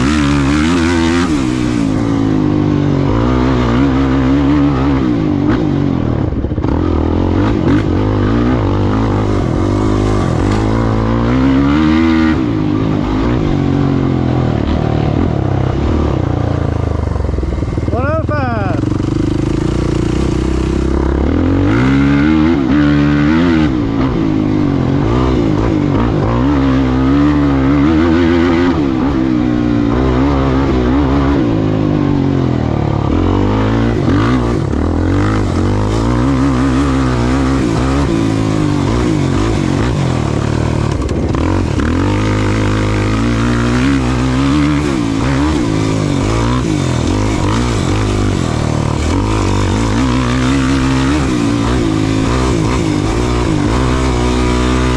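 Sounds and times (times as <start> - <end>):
racing vehicle engine revving: 0.0 - 54.9.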